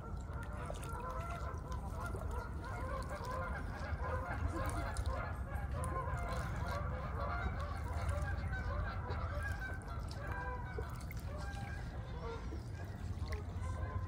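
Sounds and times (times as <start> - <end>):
low steady rumble: 0.0 - 14.0
waterfowl calling: 0.0 - 14.0.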